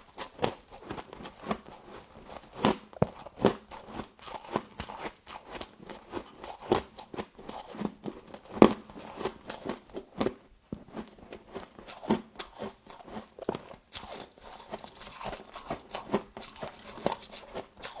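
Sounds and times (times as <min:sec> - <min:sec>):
chewing frozen frost: 0:00.0 - 0:18.0.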